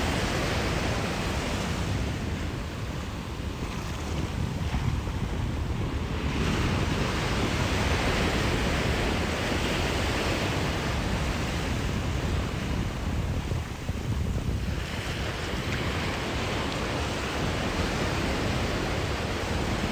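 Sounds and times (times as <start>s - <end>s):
wave breaking on shore: 0.0s - 19.9s
wind on microphone: 0.0s - 19.9s.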